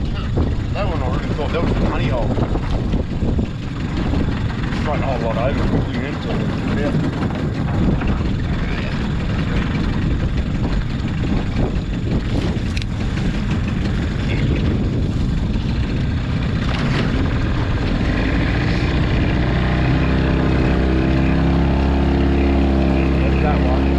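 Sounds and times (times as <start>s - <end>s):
outboard motor running: 0.0s - 23.9s
water noise: 0.0s - 23.9s
wind: 0.0s - 23.9s.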